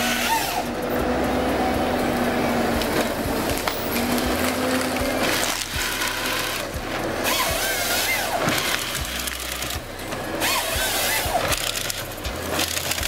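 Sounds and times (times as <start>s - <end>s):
hydraulics: 0.0s - 13.0s
machine engine running: 0.0s - 13.0s
trunk feeding through rollers: 0.0s - 13.0s
chainsaw bucking logs: 2.1s - 13.0s.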